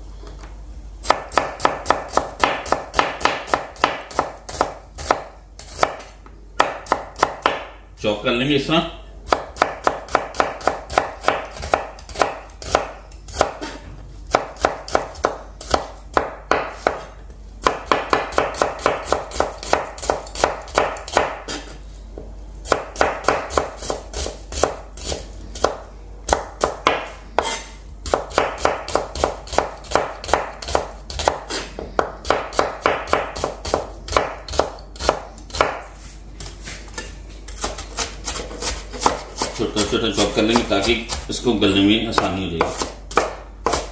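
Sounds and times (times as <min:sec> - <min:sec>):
knife chopping on cutting board: 0:01.0 - 0:07.7, 0:09.3 - 0:21.7, 0:22.6 - 0:41.4, 0:42.2 - 0:43.9.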